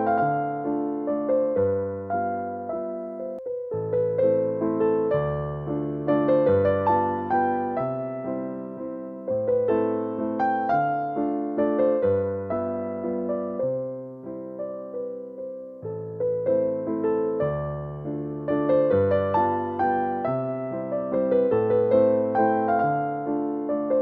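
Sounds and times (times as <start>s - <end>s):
electric piano melody: 0.0s - 24.0s.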